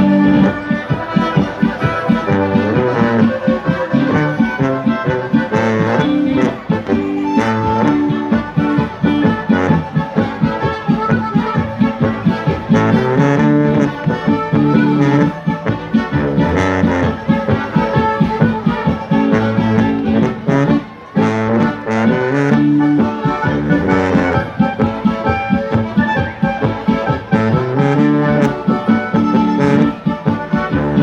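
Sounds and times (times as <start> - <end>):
accordion: 0.0 - 31.0
acoustic guitar strumming: 0.0 - 31.0
folk band playing: 0.0 - 31.0
tuba oom-pah bass: 0.0 - 31.0.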